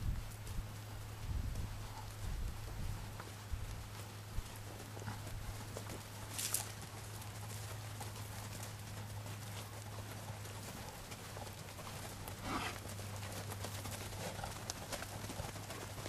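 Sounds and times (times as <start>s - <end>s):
calves walking on dirt: 0.0s - 16.0s.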